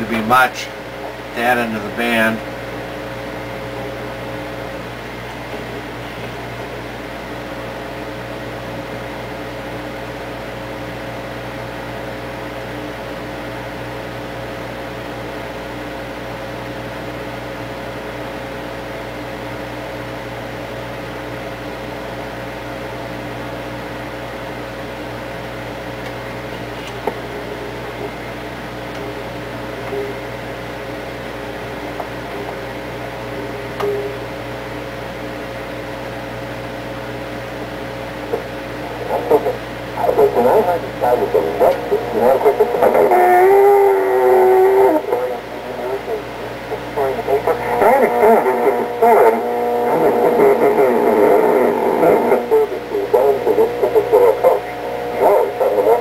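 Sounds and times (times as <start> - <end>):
radio loudspeaker hum and hiss: 0.0 - 56.0.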